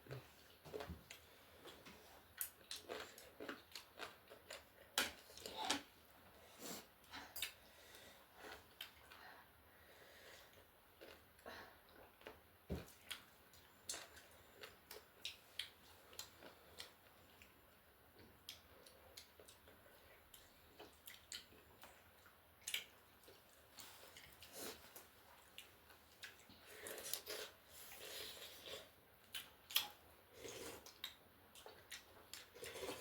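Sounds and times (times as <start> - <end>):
chewing with soft clicks: 1.1 - 5.9, 8.5 - 9.2, 10.5 - 27.5, 28.6 - 33.0.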